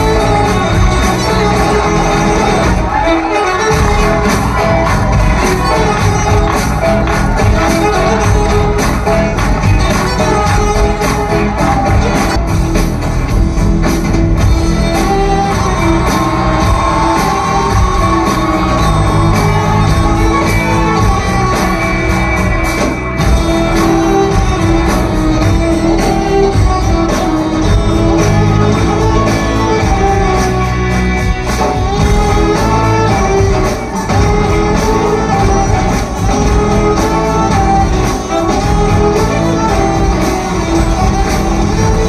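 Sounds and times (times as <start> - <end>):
song remix playing: 0.0 - 42.0.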